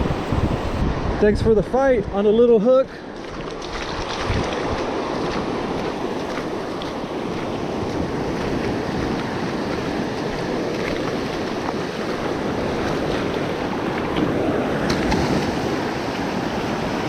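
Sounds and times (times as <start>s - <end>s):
surf washing onto beach: 0.0s - 1.4s, 3.1s - 17.0s
wind buffeting microphone: 0.0s - 17.0s.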